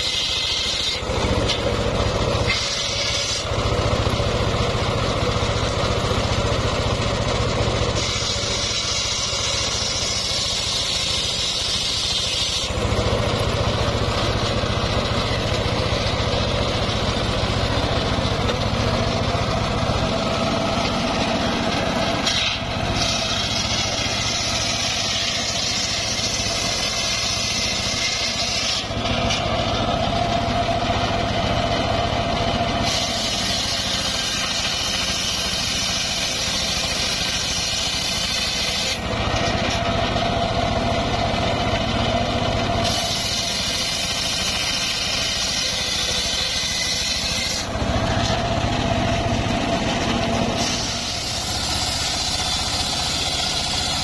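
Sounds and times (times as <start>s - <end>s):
engine running: 0.0s - 54.0s
saw blade ripping through planks: 0.0s - 54.0s.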